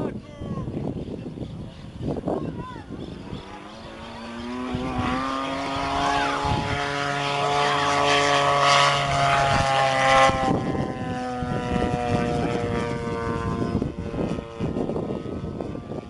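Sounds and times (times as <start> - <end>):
lower engine note: 0.0 - 16.0
model airplane engine: 0.0 - 16.0.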